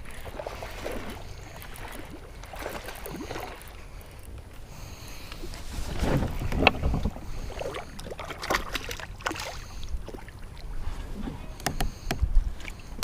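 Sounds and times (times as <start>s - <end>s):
small water splashes: 0.0s - 11.2s.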